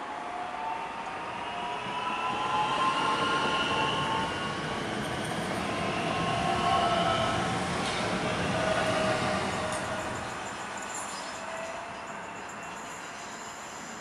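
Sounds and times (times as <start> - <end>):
train wheels rumbling on rail: 1.6 - 14.0.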